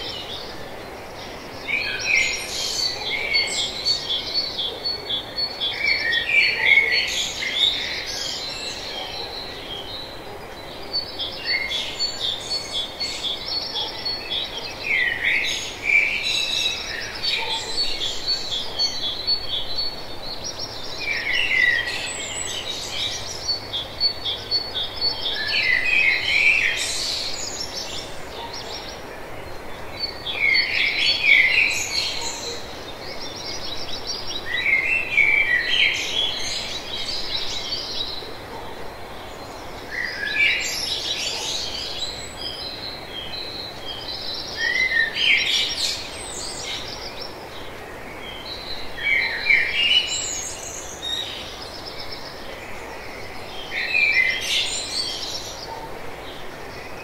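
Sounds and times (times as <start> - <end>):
songbirds singing: 0.0 - 57.0
background hiss: 7.0 - 57.0.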